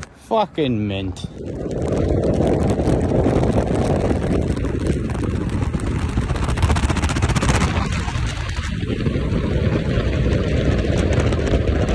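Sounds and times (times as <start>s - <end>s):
road and wind noise: 0.0s - 11.9s
rapid crackle: 1.2s - 11.9s.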